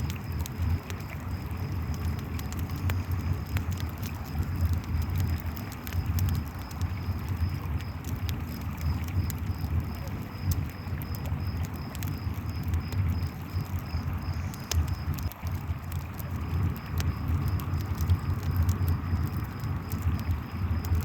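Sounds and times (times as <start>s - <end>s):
campfire crackling and popping: 0.0s - 21.0s
crickets chirping: 0.0s - 21.0s.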